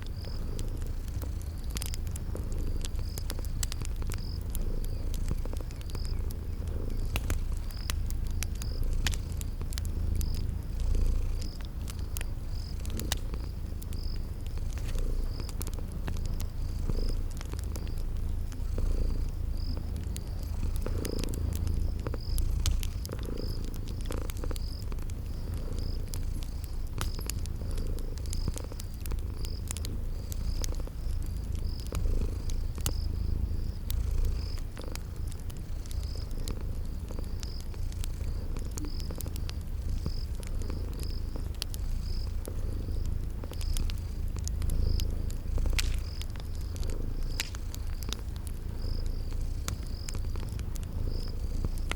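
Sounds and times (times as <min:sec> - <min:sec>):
cat purring: 0:00.0 - 0:51.9
cricket chirping: 0:00.0 - 0:51.9
wood fire crackling: 0:00.0 - 0:51.9.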